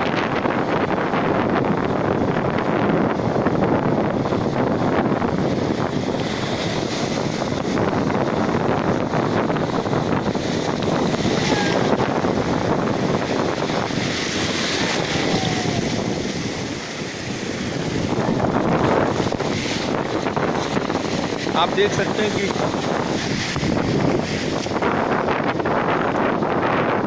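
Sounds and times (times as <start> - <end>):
sea surf breaking over sand and rocks: 0.0 - 27.0
wind buffeting microphone: 0.0 - 27.0.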